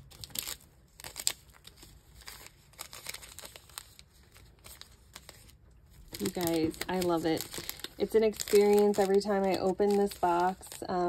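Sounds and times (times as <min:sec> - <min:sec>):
tea sachets crinkling: 0:00.0 - 0:11.0.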